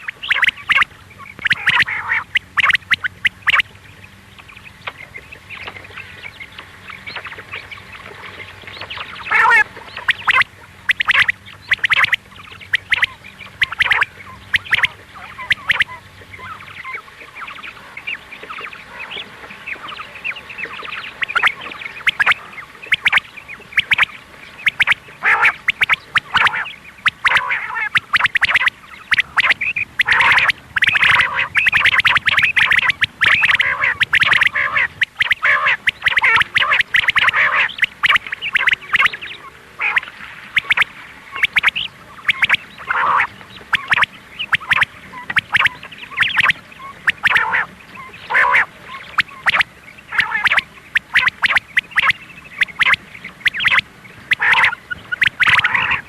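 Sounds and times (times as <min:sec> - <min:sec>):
quail calling: 0:00.0 - 0:56.0.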